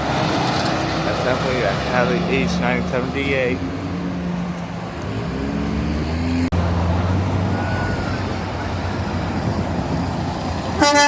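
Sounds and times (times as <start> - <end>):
road traffic passing: 0.0 - 11.0
truck engine speeding up: 0.0 - 11.0.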